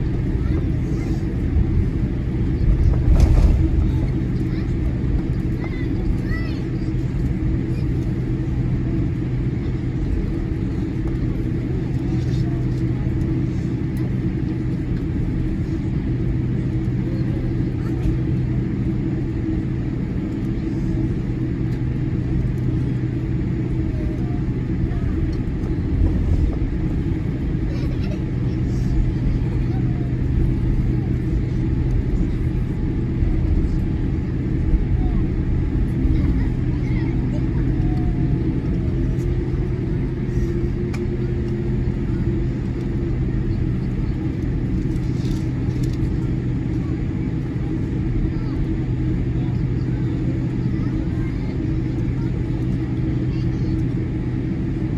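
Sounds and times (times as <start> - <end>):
airplane cabin rumble: 0.0 - 54.9
constant low hum: 0.0 - 54.9.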